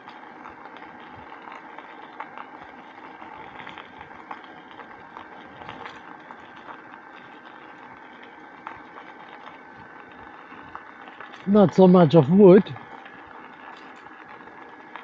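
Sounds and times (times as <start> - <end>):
bicycle tyres rolling on rough track: 0.0 - 11.5, 12.8 - 15.0.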